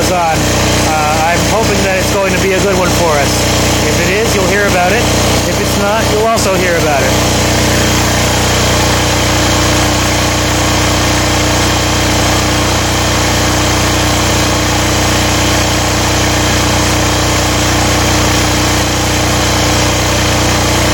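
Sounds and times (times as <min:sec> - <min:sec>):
diesel generator running: 0:00.0 - 0:20.9.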